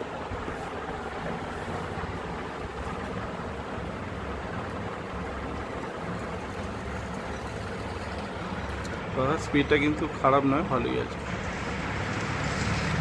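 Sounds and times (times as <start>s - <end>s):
ceiling fan whooshing air: 0.0s - 13.0s.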